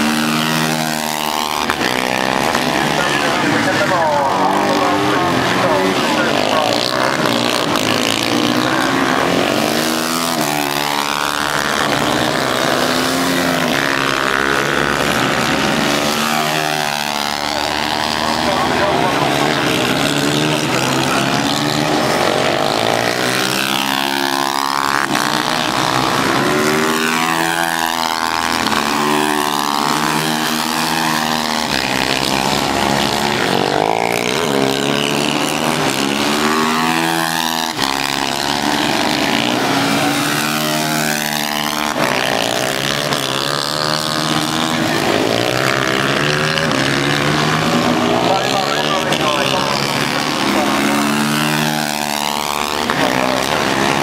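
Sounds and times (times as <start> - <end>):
racing motorcycles accelerating: 0.0 - 54.0.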